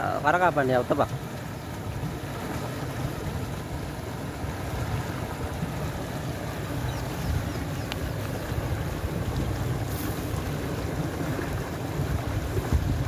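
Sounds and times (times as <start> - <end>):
water pouring and churning: 0.0 - 13.0.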